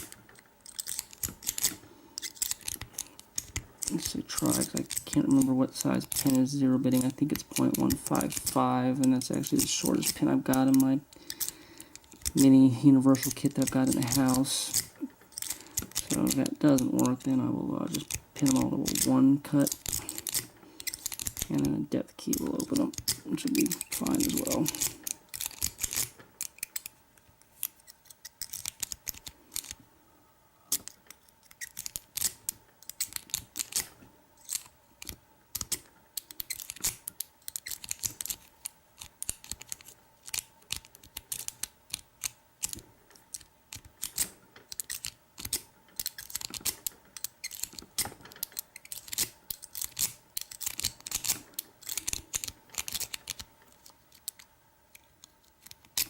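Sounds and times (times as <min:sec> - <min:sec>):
lock pins clicking and scraping: 0:00.0 - 0:29.8, 0:30.7 - 0:56.0.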